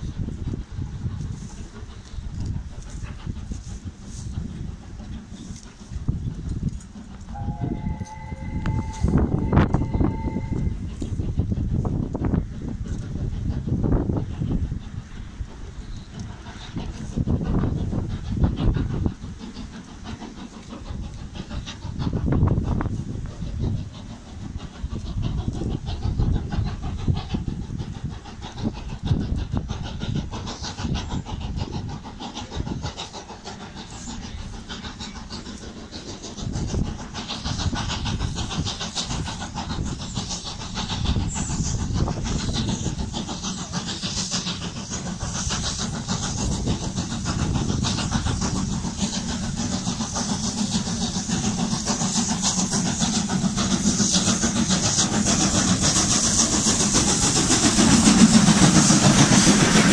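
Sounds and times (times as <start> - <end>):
steam locomotive exhaust: 0.0 - 59.9.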